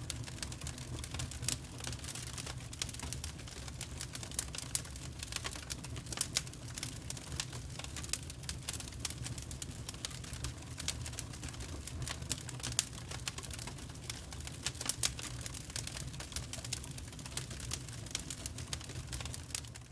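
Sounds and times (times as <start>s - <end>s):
logs crackling and popping: 0.0s - 19.9s
low fire rumble: 0.0s - 19.9s.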